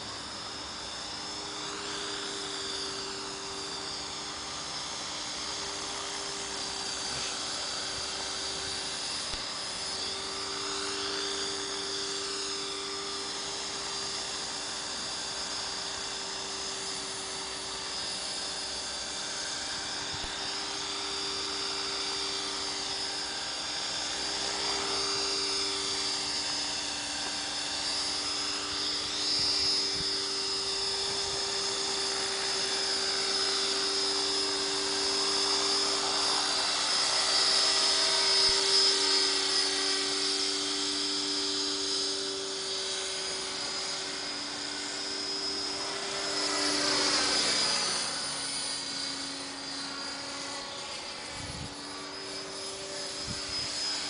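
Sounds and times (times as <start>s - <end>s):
model helicopter motor and rotors: 0.0s - 54.0s.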